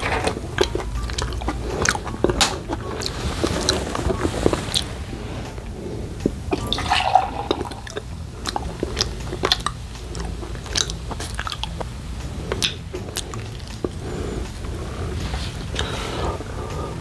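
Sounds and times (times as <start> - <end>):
mouth clicks and smacks: 0.0 - 17.0
person chewing food: 0.0 - 17.0
steady low hum: 0.0 - 17.0.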